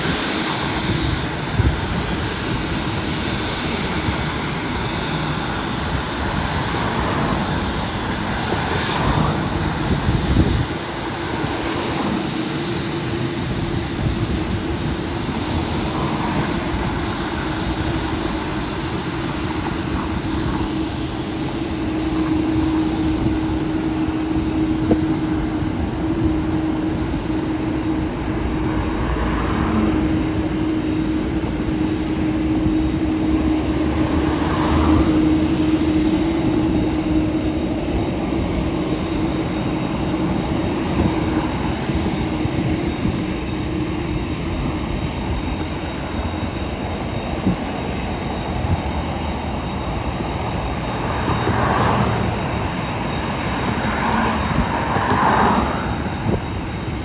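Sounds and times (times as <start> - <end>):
jet airliner engine noise: 0.0 - 57.0.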